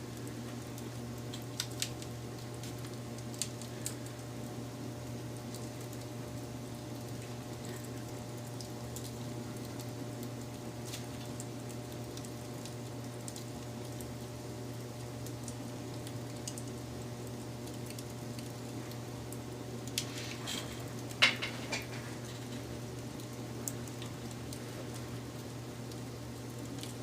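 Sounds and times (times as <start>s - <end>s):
fire crackles and pops: 0.0s - 27.0s
wood fire rumbling: 0.0s - 27.0s.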